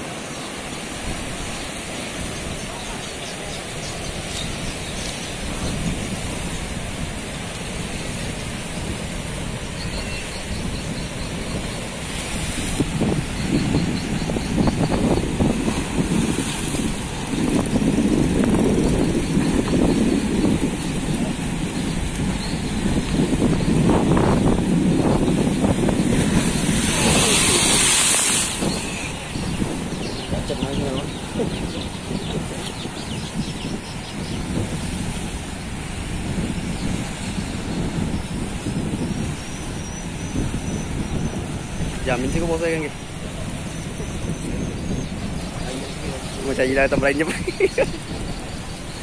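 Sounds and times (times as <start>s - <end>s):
wave splashing over bank: 0.0s - 48.9s
rushing churning water: 0.0s - 49.0s.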